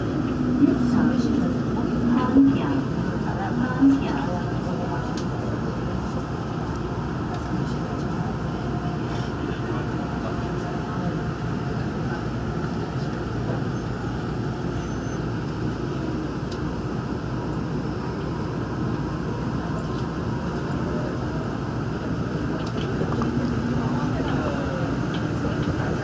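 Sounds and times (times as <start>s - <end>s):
monorail train rumble: 0.0s - 26.0s.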